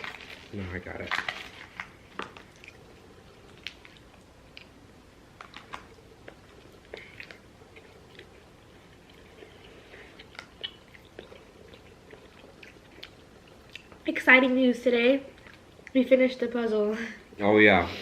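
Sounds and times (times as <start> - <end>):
people chewing food: 0.0 - 14.2, 15.2 - 16.0.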